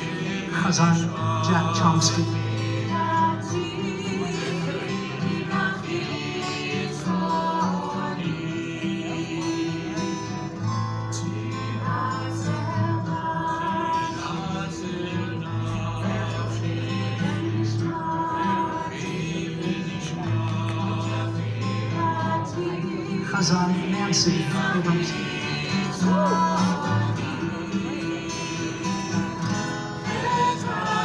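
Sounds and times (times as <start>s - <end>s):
voices singing: 0.0s - 31.0s.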